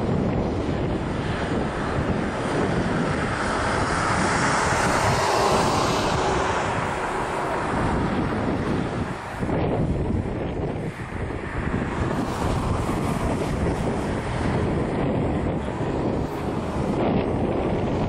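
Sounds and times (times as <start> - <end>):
airliner jet engines landing: 0.0 - 18.0.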